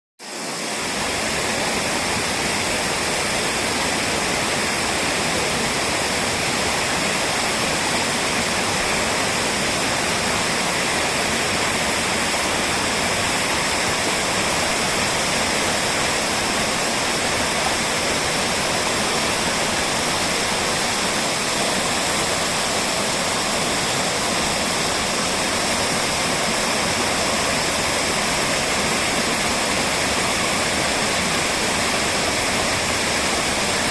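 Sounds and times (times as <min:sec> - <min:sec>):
waterfall rushing: 0:00.2 - 0:33.9.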